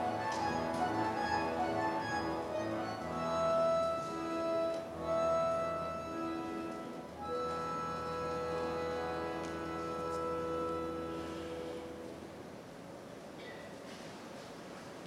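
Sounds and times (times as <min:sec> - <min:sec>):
accordion orchestra holding chords: 0:00.0 - 0:12.4.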